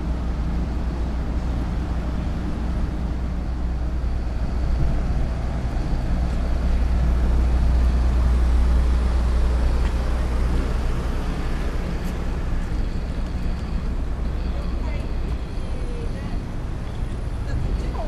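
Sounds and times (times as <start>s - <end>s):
harbour background noise: 0.0s - 18.0s
ship engines humming: 0.0s - 18.0s.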